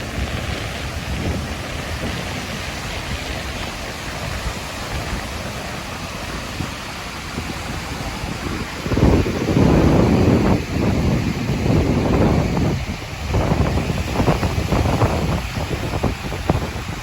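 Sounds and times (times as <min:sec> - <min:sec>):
surf breaking on beach: 0:00.0 - 0:17.0
wind rumbling on microphone: 0:00.0 - 0:17.0.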